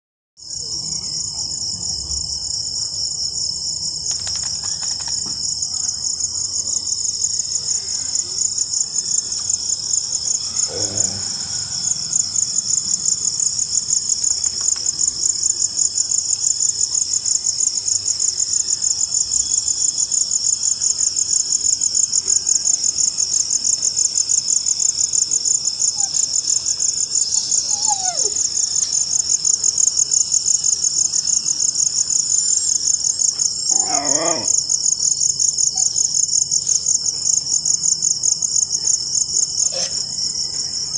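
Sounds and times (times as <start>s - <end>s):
crickets trilling: 0.4s - 40.9s.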